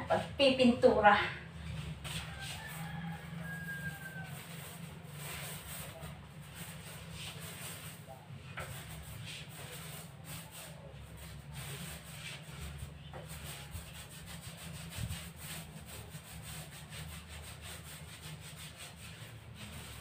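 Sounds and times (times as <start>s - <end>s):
paint roller swishing on wall: 0.0s - 20.0s.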